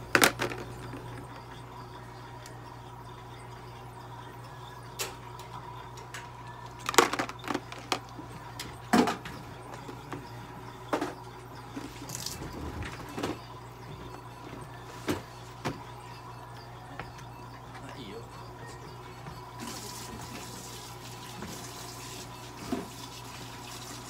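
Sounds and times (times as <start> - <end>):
equipment hum: 0.0 - 24.0.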